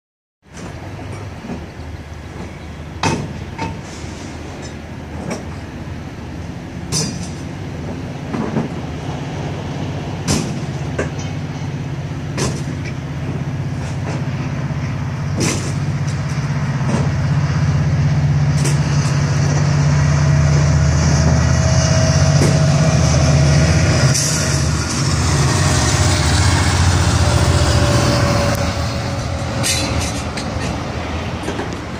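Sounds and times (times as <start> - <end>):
diesel locomotive rumbling past: 0.4 - 31.9
hiss of passing train: 0.5 - 31.9.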